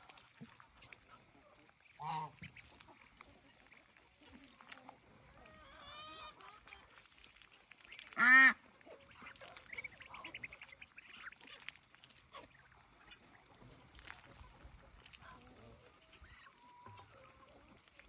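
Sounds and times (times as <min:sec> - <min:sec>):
duckling peeping: 0:00.8 - 0:17.6.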